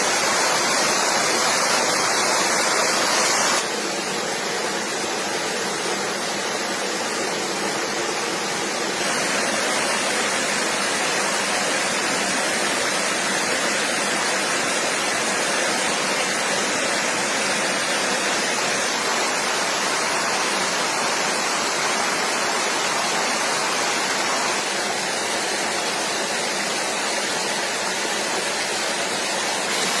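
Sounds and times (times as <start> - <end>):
flowing stream: 0.0 - 30.0.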